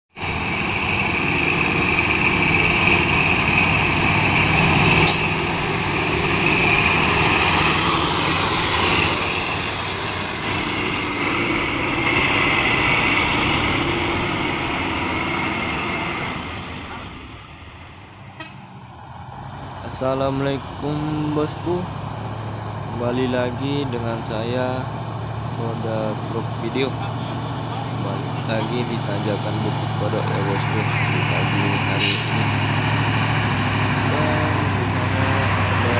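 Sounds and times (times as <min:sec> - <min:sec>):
heavy trucks driving on road: 0:00.1 - 0:35.9
steady high whine: 0:00.2 - 0:19.1, 0:19.9 - 0:35.9.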